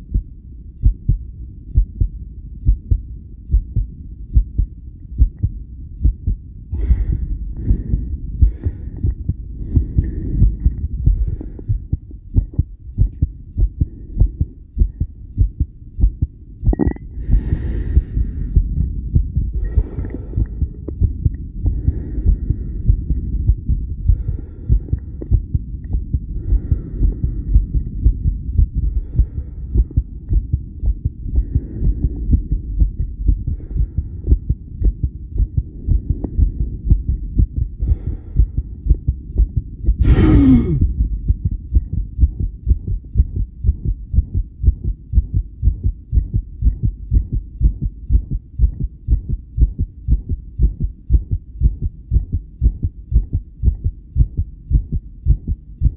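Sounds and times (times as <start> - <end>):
heartbeat through stethoscope: 0.0 - 55.9.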